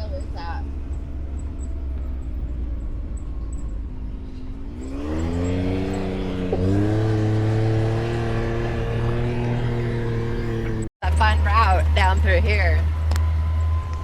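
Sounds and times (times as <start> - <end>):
vehicle engine revving: 0.0 - 12.1.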